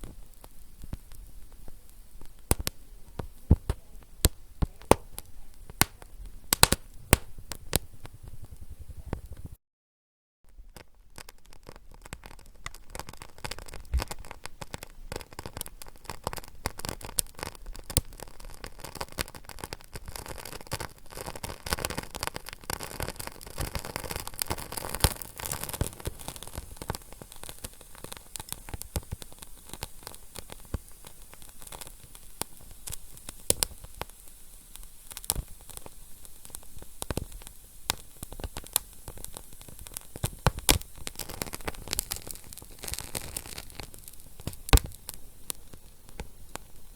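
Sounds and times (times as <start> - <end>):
fire crackling: 0.0 - 9.6, 10.5 - 46.9.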